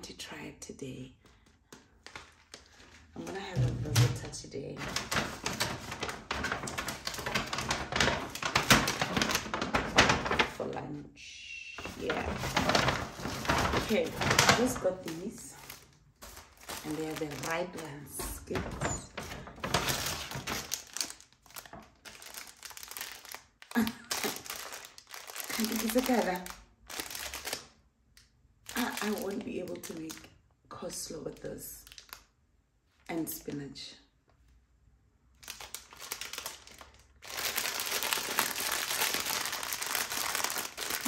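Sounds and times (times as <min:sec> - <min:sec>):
grocery bags crinkling and rustling: 0:01.8 - 0:10.9, 0:11.8 - 0:27.8, 0:28.7 - 0:30.3, 0:30.9 - 0:32.3, 0:35.4 - 0:41.0.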